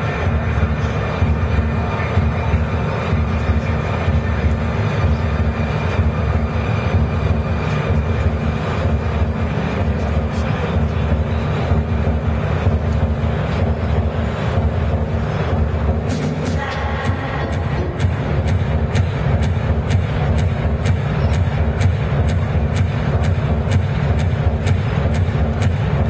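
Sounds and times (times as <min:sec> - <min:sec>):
crowded hall background din: 0:00.0 - 0:26.0.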